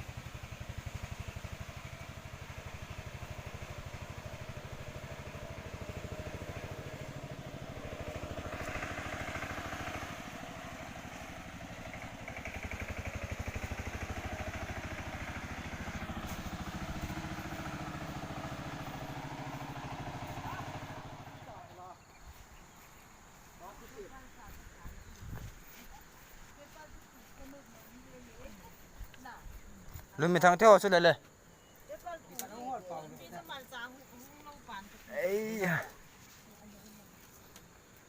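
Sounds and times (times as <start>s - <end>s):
small engine running: 0.0s - 31.0s, 32.1s - 38.0s.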